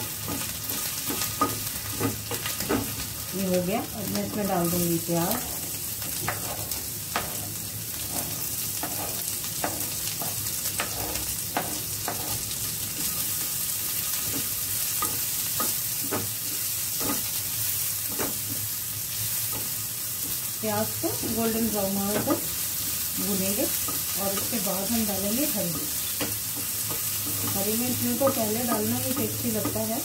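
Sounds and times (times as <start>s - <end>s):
wooden spatula scraping and tapping: 0.0s - 20.5s, 21.2s - 22.6s, 23.2s - 30.0s
onion sizzling in hot oil: 0.0s - 30.0s.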